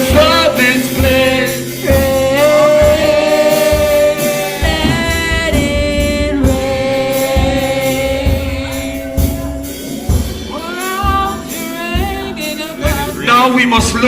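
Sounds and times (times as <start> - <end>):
low beats: 0.0 - 13.3
held sung notes: 0.0 - 13.7.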